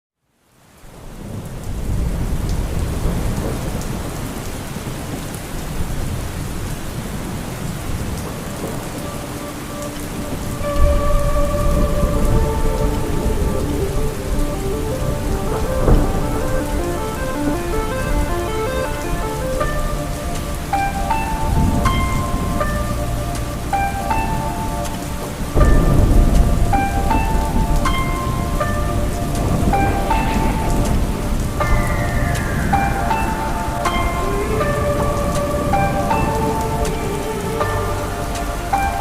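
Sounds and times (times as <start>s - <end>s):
heavy rain falling: 0.3s - 39.0s
thunder rumbling: 1.0s - 39.0s
soft melodic music: 6.7s - 39.0s.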